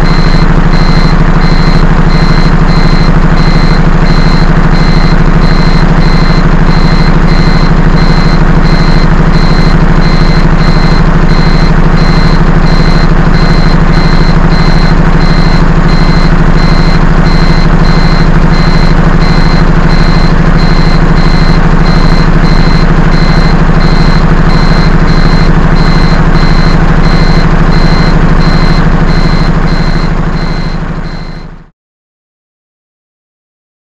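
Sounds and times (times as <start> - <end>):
electronic warning beeps: 0.0 - 31.6
large engine idling: 0.0 - 31.7.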